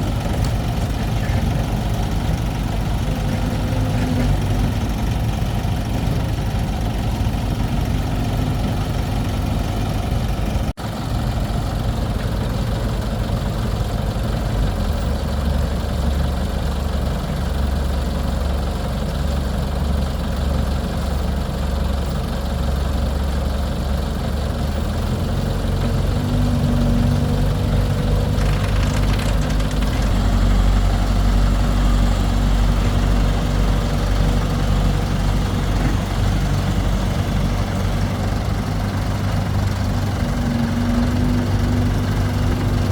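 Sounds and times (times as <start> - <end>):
excavator engine humming: 0.0 - 42.9.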